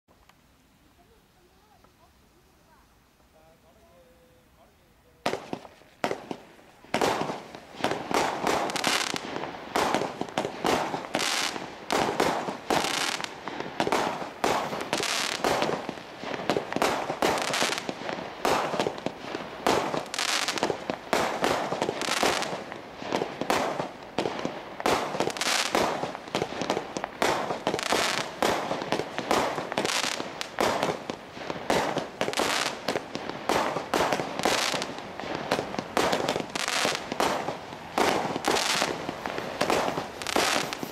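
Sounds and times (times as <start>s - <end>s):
firework barrage firing: 5.2s - 40.9s.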